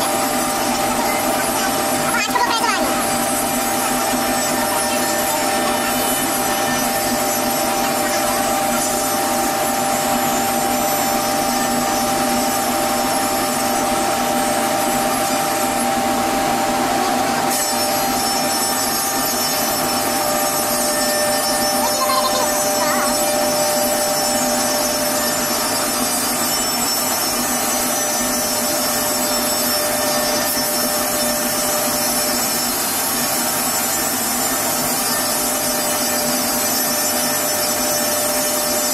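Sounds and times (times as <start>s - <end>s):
rush of cutting noise: 0.0s - 38.9s
spindle whine: 0.0s - 38.9s.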